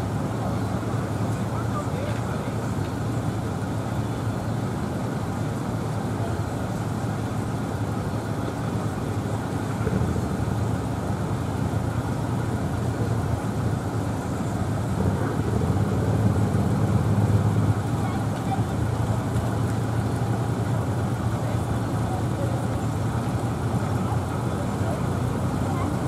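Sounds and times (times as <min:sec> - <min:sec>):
low city rumble: 0:00.0 - 0:26.0.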